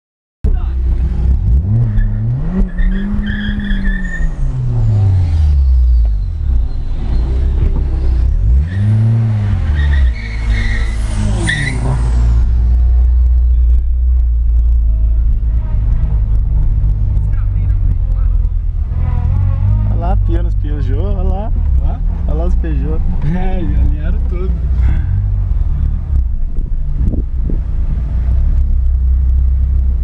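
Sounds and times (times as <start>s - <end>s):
low engine rumble: 0.4s - 30.0s
car engines revving: 0.5s - 30.0s.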